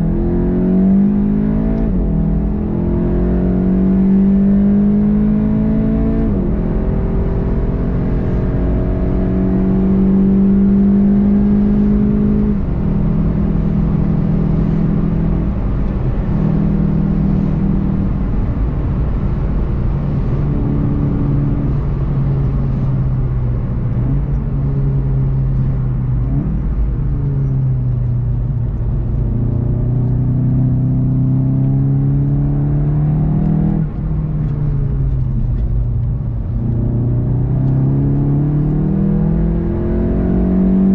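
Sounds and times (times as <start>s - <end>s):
car engine revving: 0.0s - 40.9s
road rumble: 0.0s - 40.9s.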